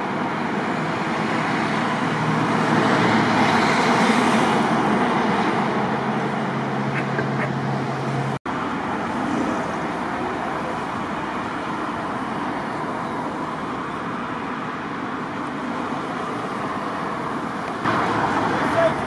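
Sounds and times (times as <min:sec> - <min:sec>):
road traffic hum: 0:00.0 - 0:19.0.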